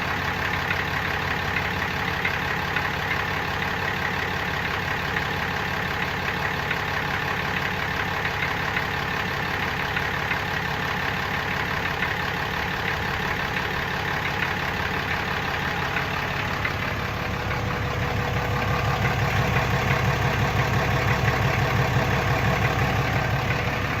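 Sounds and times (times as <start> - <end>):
diesel engine idling: 0.0 - 24.0
engine rattle: 0.0 - 24.0.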